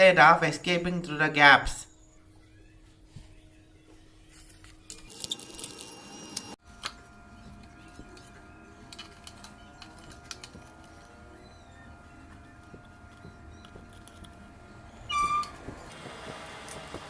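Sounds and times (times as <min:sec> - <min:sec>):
faint clicks and rustles of tools: 0:02.3 - 0:17.0.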